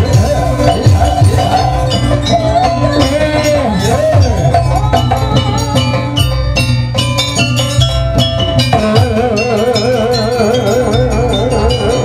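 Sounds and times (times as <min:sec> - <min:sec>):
hand drums: 0:00.0 - 0:12.0
struck metal percussion: 0:00.0 - 0:12.0
wavering held melody: 0:00.0 - 0:12.0.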